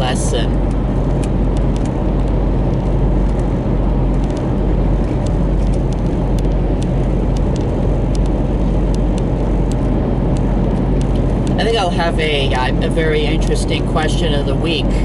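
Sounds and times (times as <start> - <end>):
car cabin road and engine noise: 0.0 - 15.0.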